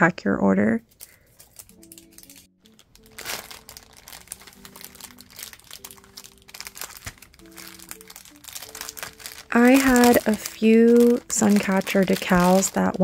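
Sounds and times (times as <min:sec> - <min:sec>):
soft background music: 0:00.0 - 0:13.0
plastic bags crinkling: 0:00.9 - 0:13.0.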